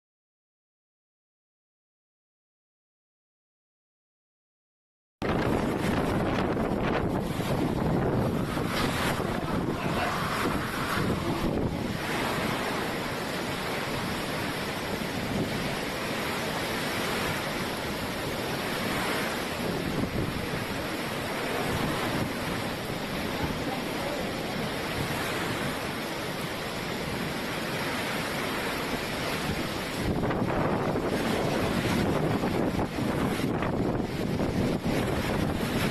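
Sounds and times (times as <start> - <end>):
hurricane wind and driving rain: 5.2 - 35.9.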